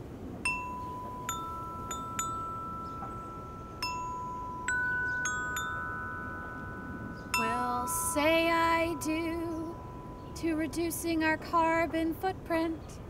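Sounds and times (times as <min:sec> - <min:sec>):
glockenspiel notes: 0:00.5 - 0:11.3.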